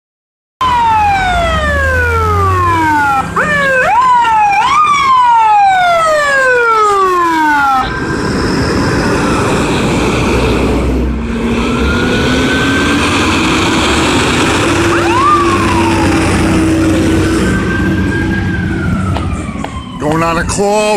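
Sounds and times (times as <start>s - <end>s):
siren whoops: 0.6s - 10.0s, 11.5s - 13.7s, 14.4s - 20.9s
lower siren tone rising: 0.6s - 20.9s
siren wailing: 0.6s - 20.9s
truck and traffic rumble: 0.6s - 20.9s.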